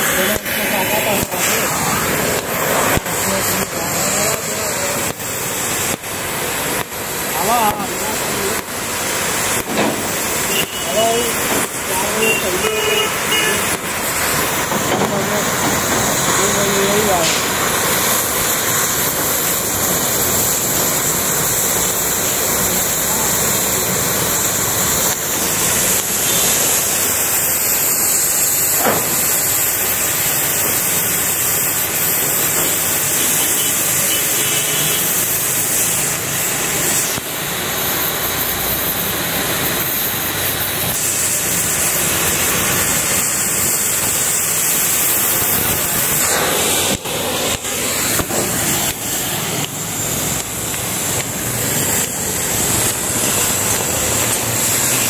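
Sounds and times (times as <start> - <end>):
gas cutting torch hissing: 0.0 - 55.0.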